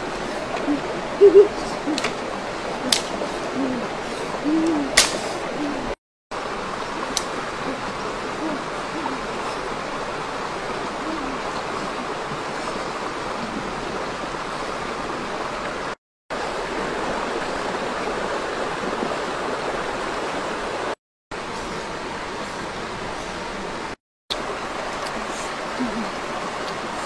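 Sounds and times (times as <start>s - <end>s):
stream water rushing over rocks: 0.0s - 27.0s.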